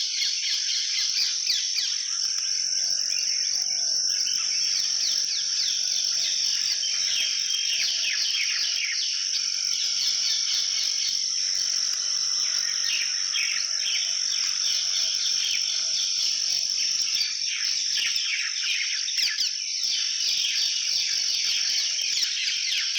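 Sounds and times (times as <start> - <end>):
high-pitched insect trill: 0.0 - 22.9
small birds chirping: 0.0 - 22.9.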